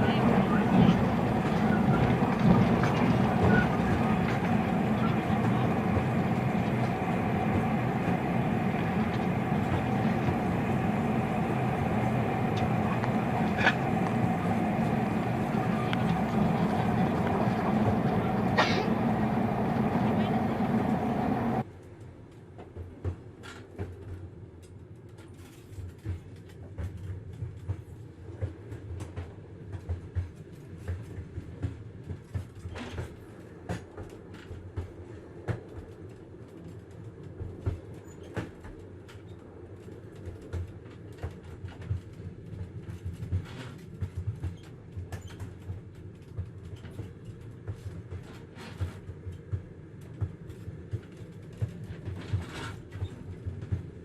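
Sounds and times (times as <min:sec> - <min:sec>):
wheels clacking and knocking: 0:00.0 - 0:21.7, 0:22.6 - 0:54.0
train rumble: 0:00.0 - 0:54.0.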